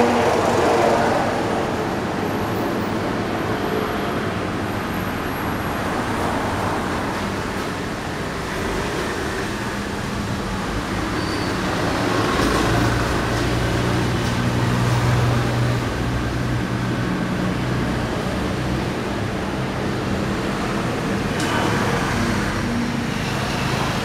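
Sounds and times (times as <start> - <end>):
traffic on wet road: 0.0 - 24.0.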